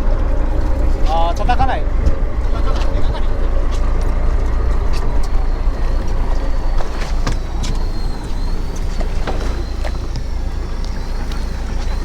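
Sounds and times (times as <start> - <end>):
boat engine rumbling: 0.0 - 12.0
water noise: 0.0 - 12.0
wind hissing: 0.2 - 12.0.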